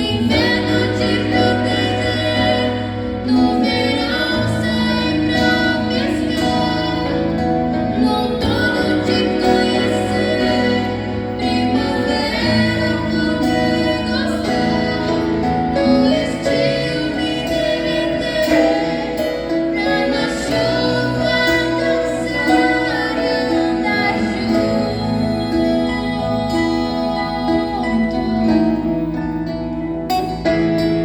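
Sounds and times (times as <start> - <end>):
woman singing with vibrato: 0.0 - 29.7.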